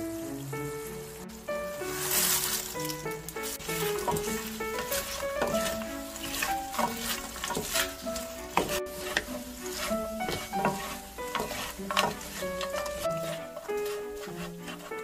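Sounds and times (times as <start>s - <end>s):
background music with held notes: 0.0s - 15.0s
food sizzling in a pan: 0.0s - 15.0s
spatula scraping a hot pan: 1.7s - 15.0s.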